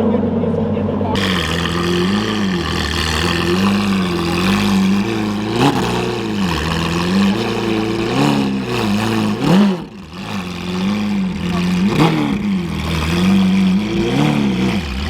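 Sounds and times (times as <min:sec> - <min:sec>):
car engine throttle blips: 0:00.0 - 0:15.0.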